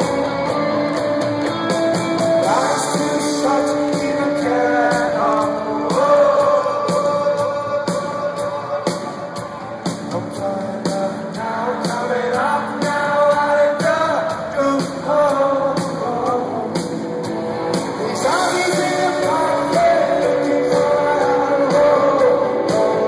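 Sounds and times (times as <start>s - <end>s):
live rock band playing: 0.0s - 23.0s
man singing lead vocal: 2.4s - 23.0s.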